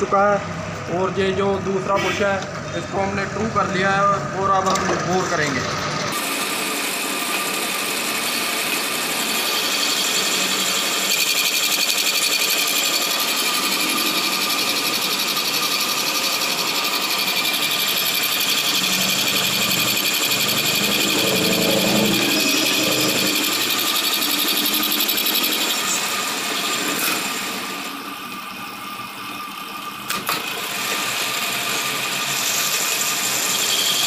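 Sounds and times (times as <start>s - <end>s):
lathe running: 2.4s - 34.0s.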